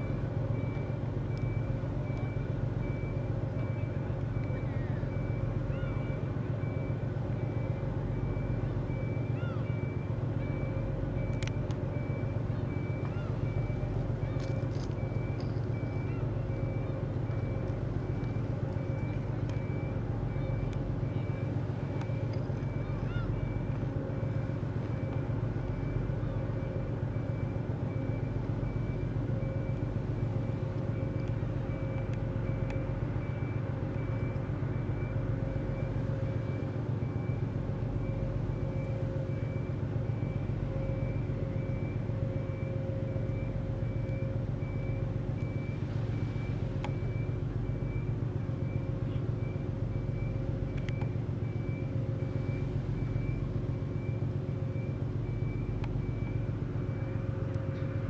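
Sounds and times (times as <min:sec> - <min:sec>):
ferry engines low drone: 0:00.0 - 0:58.0
thin steady whine: 0:00.0 - 0:58.0.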